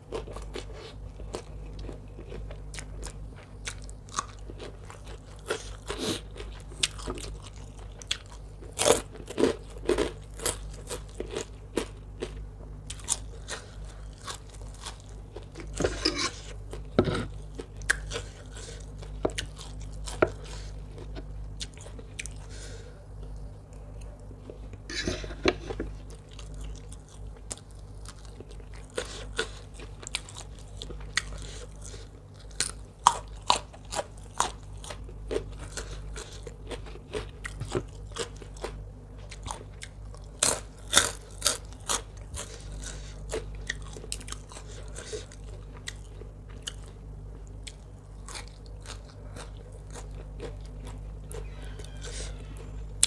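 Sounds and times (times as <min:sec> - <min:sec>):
person chewing and crunching: 0:00.0 - 0:53.0.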